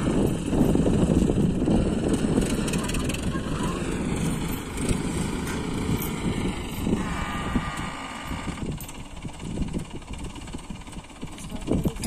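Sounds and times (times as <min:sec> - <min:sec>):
crane engine idling: 0:00.0 - 0:12.0.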